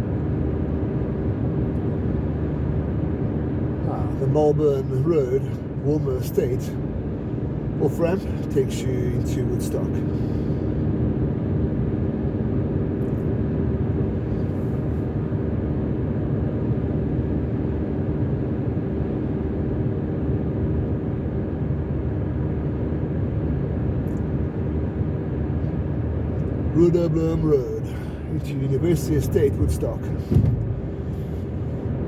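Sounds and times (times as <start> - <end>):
car road noise from cabin: 0.0 - 32.0.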